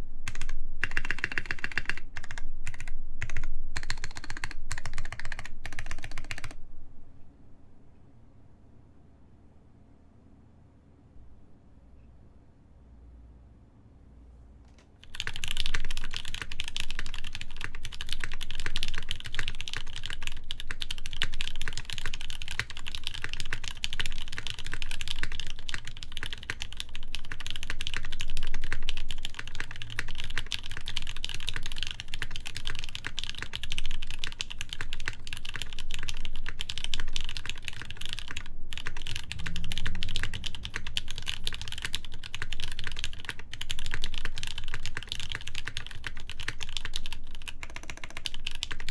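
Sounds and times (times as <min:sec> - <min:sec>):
typing on mechanical keyboard: 0:00.3 - 0:06.6, 0:14.8 - 0:48.9.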